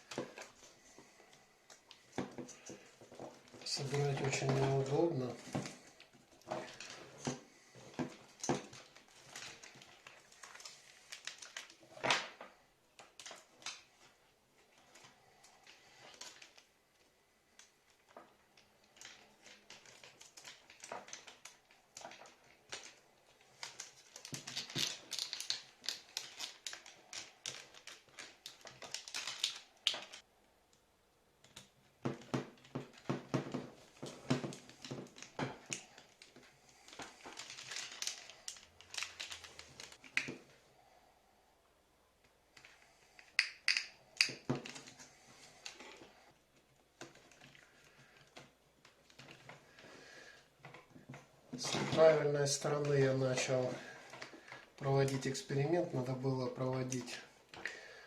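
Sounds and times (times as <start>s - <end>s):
plastic headset parts clicking: 0.0s - 30.8s, 31.4s - 40.6s, 42.2s - 55.4s.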